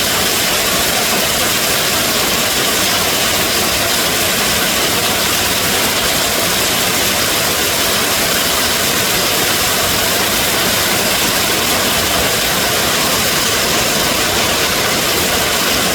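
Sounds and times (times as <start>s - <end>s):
heavy rain falling: 0.0s - 15.9s.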